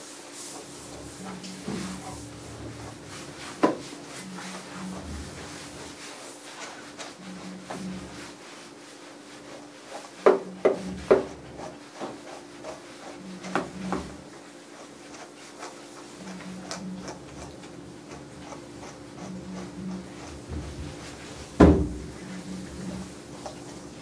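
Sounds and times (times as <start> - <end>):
brush rubbing through dog fur: 0.0 - 24.0.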